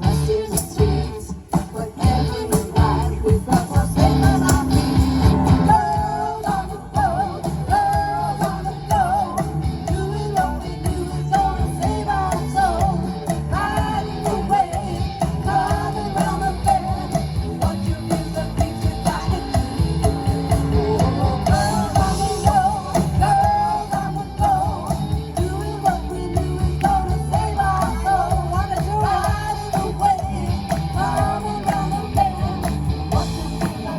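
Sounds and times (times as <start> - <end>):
live rock band playing: 0.0 - 33.9
person singing: 0.0 - 33.9.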